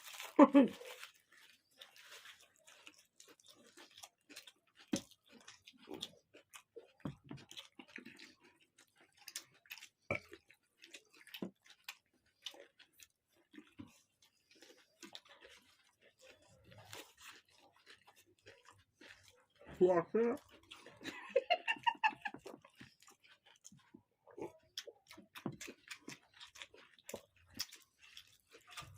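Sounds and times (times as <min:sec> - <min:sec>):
chewing and eating: 0:00.0 - 0:28.9.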